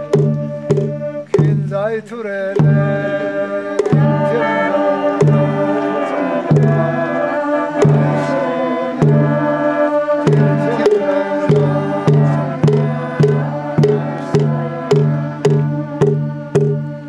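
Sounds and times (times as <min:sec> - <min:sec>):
large drum beats: 0:00.0 - 0:17.0
group of voices singing: 0:02.6 - 0:17.0.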